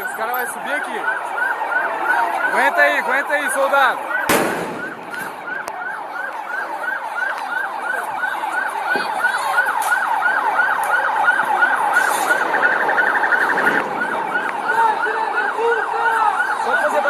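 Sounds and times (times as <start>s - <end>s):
police siren yelp: 0.0s - 17.0s.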